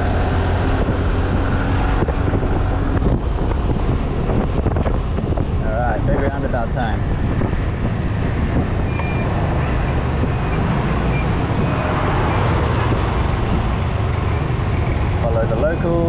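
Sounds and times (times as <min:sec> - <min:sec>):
wind on microphone: 0:00.0 - 0:15.2
surrounding traffic: 0:00.0 - 0:16.0.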